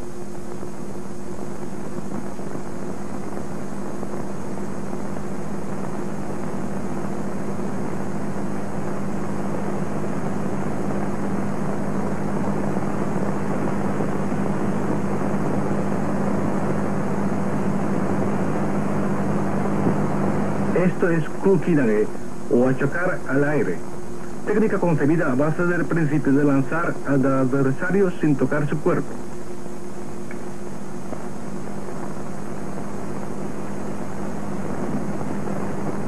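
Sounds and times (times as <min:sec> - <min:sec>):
film soundtrack hiss and hum: 0:00.0 - 0:36.0.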